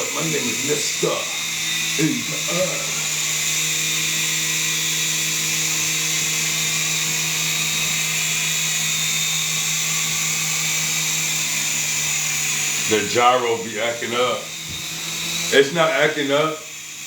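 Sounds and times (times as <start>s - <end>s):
rc helicopter motor whine: 0.0s - 17.0s.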